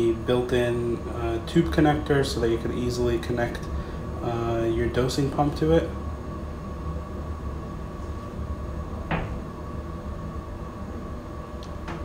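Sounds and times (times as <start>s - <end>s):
equipment humming: 0.0s - 12.0s.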